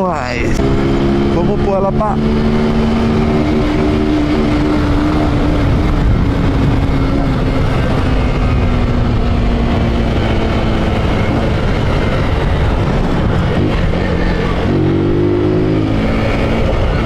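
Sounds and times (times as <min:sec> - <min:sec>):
motorcycle engine running: 0:00.0 - 0:17.0
wind and road rush: 0:00.0 - 0:17.0.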